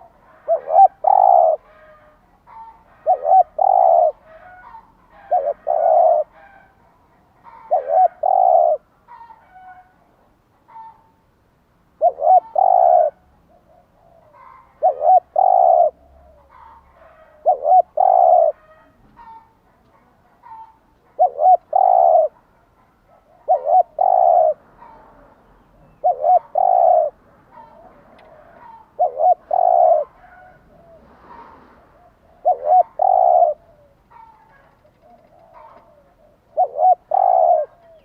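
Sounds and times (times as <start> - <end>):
faint bird calls: 0.0 - 6.8, 7.4 - 10.0, 12.0 - 38.0
dove cooing: 0.0 - 10.0, 12.0 - 38.0.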